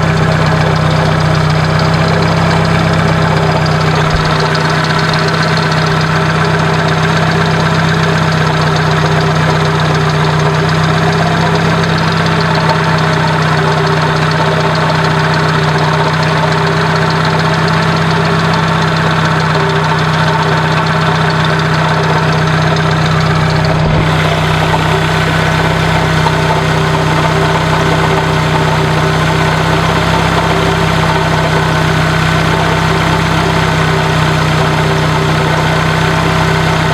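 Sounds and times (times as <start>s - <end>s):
alternator grinding and scraping: 0.0s - 36.9s
car engine idling: 0.0s - 36.9s.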